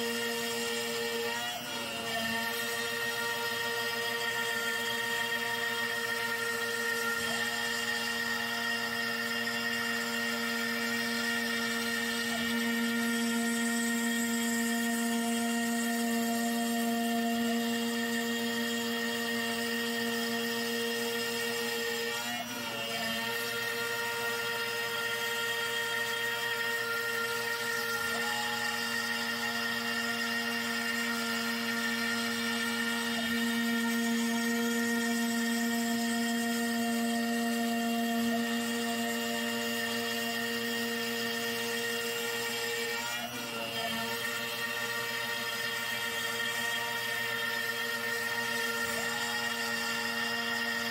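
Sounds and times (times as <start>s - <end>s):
end mill cutting wood: 0.0s - 50.9s
router spindle whine: 0.0s - 50.9s.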